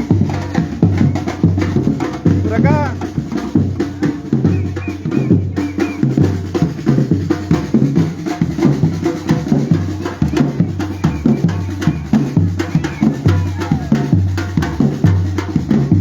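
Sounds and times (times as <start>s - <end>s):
bass drums: 0.0s - 16.0s
snare drums: 0.0s - 16.0s.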